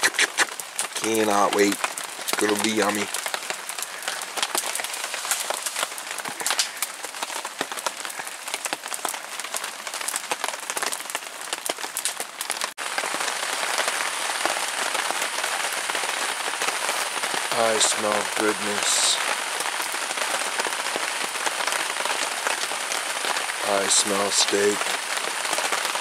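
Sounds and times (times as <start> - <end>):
rain on tarps: 0.0 - 26.0.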